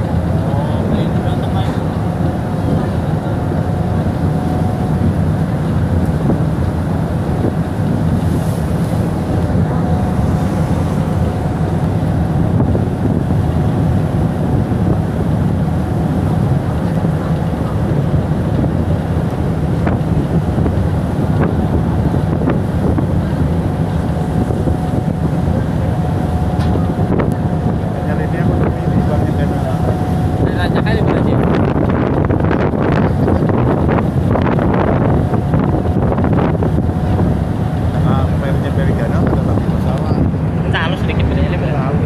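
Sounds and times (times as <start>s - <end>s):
rough sea rushing against hull: 0.0s - 42.0s
ship engine droning: 0.0s - 42.0s
wind blowing across microphone: 0.0s - 42.0s.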